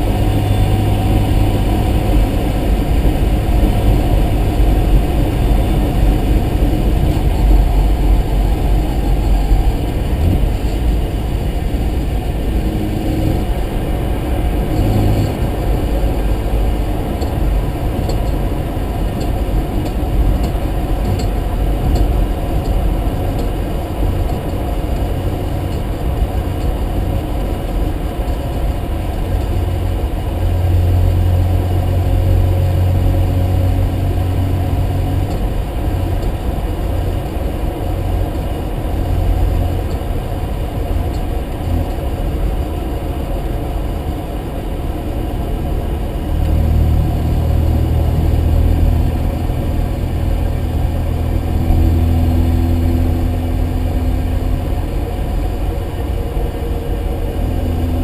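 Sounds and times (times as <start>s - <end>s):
rotary engine running: 0.0s - 58.0s.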